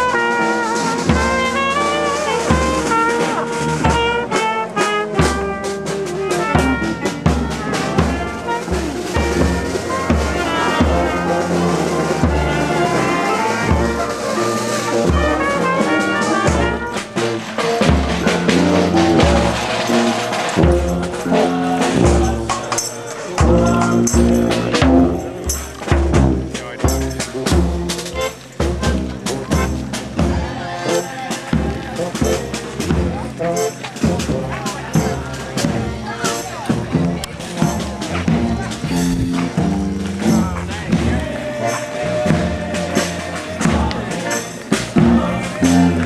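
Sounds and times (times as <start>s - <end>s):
brass band playing a march: 0.0s - 46.0s
bass drum beat: 5.2s - 22.8s, 23.4s - 46.0s.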